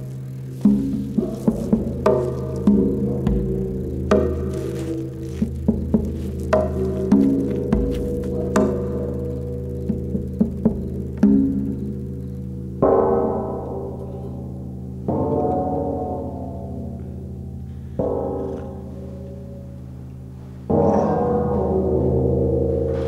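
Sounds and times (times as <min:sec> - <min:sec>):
low drone: 0:00.0 - 0:23.0
struck ringing chords: 0:00.0 - 0:23.0.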